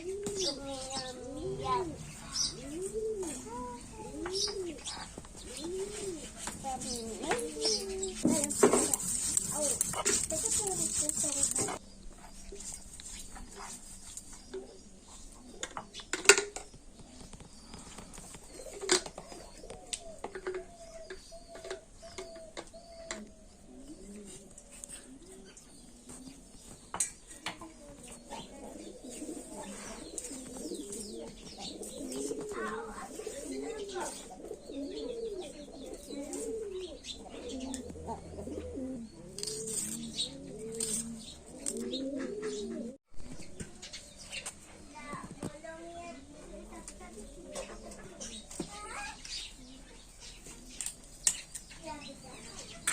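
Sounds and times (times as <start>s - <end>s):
pigeons cooing: 0.0s - 11.8s, 13.2s - 44.9s, 46.1s - 52.9s.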